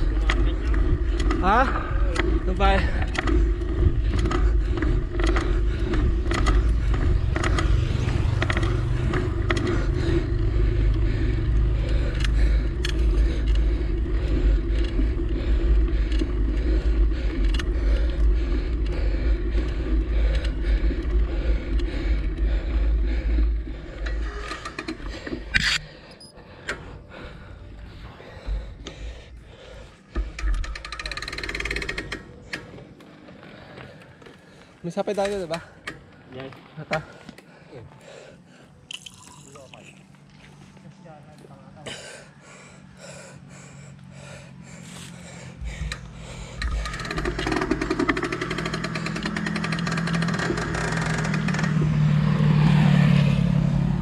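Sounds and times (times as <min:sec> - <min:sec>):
rattling and scraping clicks: 0:00.0 - 0:27.0, 0:28.4 - 0:37.5, 0:44.9 - 0:52.7
motor running with low rumble: 0:00.0 - 0:54.0.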